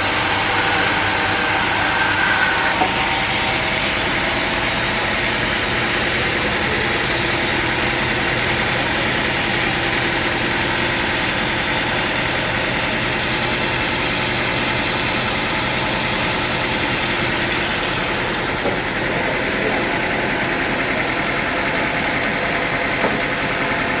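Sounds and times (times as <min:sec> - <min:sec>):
sawmill machinery drone: 0:00.0 - 0:24.0.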